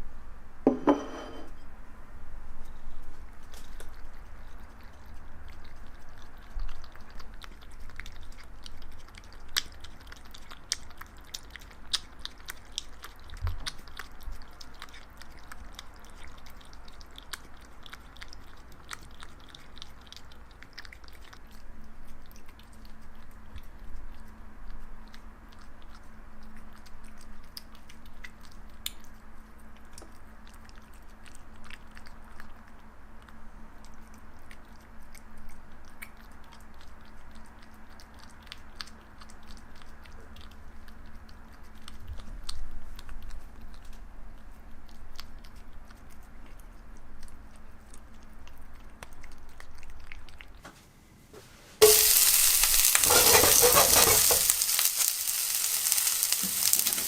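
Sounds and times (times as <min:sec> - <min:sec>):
cat chewing: 0:02.9 - 0:50.6, 0:51.8 - 0:56.9.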